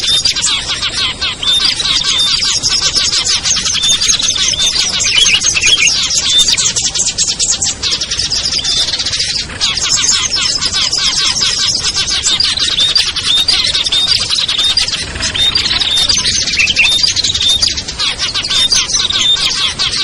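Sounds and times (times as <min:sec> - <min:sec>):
small songbirds chattering: 0:00.0 - 0:20.0.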